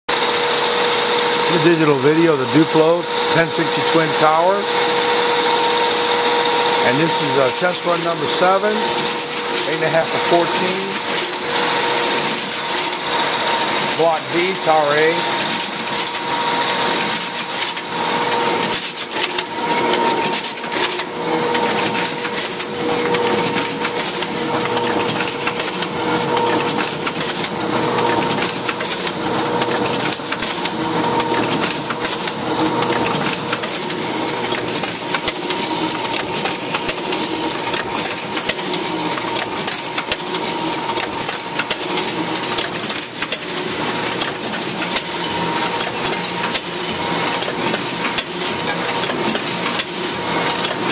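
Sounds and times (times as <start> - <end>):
steady machine hum: 0.1 - 50.9
machine clattering rapid clicks: 7.0 - 50.9.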